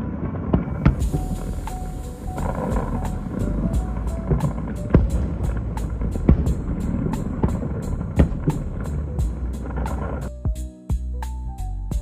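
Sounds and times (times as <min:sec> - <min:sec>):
fireworks booming: 0:00.0 - 0:10.3
continuous low rumble: 0:00.5 - 0:10.3
music with fast steady beat: 0:00.9 - 0:12.0.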